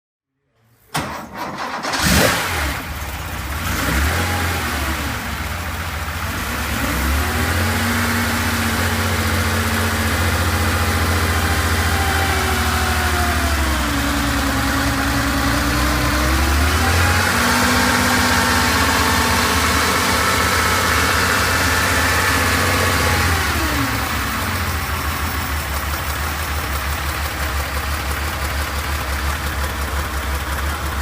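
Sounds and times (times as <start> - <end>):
car engine idling: 2.8 - 6.8, 7.9 - 31.0.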